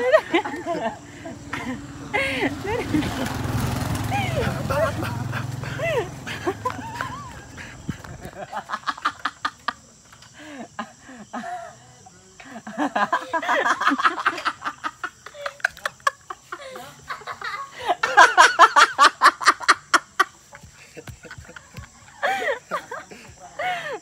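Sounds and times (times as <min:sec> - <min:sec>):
person laughing hard: 0:00.0 - 0:03.4, 0:04.1 - 0:09.6, 0:12.7 - 0:24.0.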